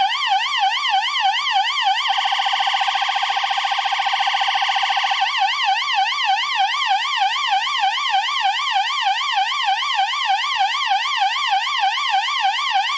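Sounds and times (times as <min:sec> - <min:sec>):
stylophone siren yelp: 0:00.0 - 0:12.9.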